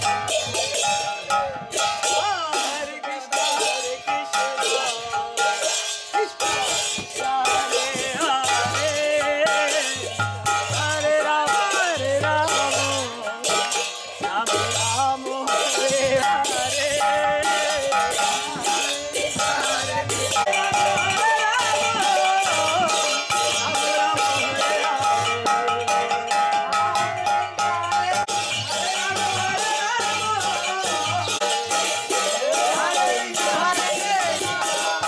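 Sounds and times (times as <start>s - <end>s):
group of voices chanting: 0.0s - 13.7s, 15.6s - 35.0s
hand cymbals clashing: 0.0s - 35.0s.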